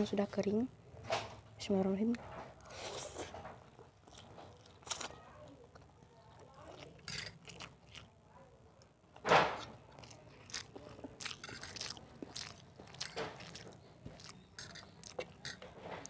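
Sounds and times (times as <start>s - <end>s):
chewing crunchy noodles: 2.6s - 16.0s.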